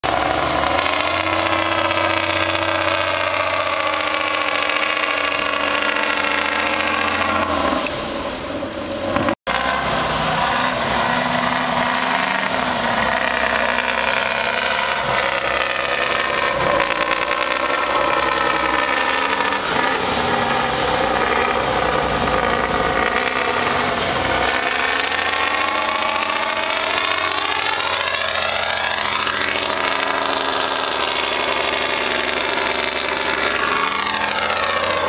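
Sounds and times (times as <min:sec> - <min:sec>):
diesel truck engine straining: 0:00.0 - 0:35.0.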